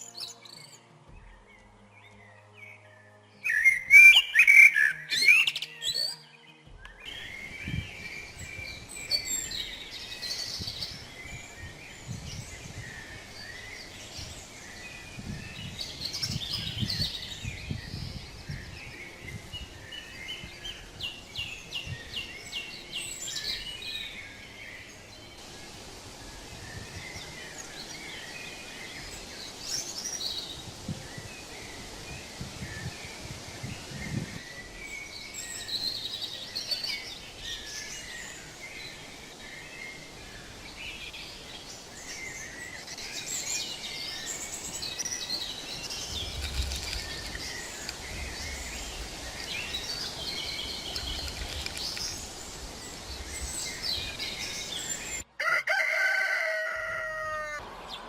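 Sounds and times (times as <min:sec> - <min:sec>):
songbirds chirping and trilling: 0:00.0 - 0:58.0
background hiss: 0:06.8 - 0:55.4.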